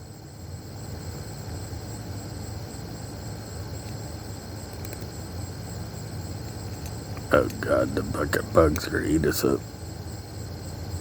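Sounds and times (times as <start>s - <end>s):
night insects trilling: 0.1s - 11.0s
steady low hum: 1.4s - 11.0s.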